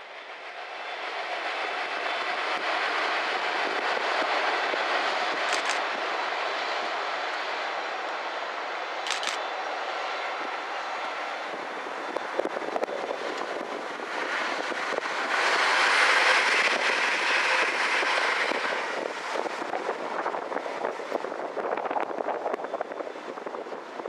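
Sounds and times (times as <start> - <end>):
diesel locomotive engine drone: 0.0 - 24.0
electric train passing: 0.0 - 24.0.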